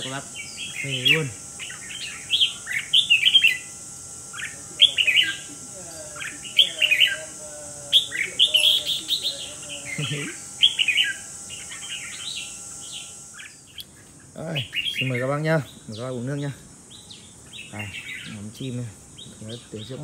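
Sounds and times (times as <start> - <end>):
bird harsh chattering calls: 0.0 - 20.0.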